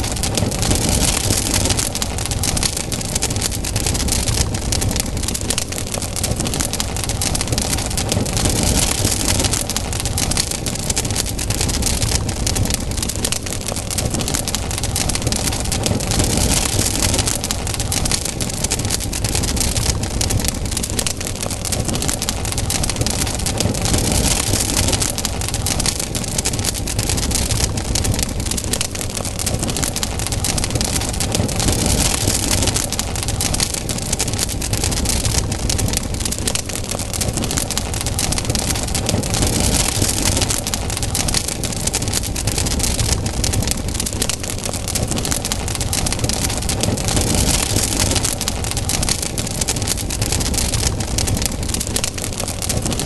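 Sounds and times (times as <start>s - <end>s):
burning wood crackling: 0.0s - 53.0s
campfire flame rushing: 0.0s - 53.0s.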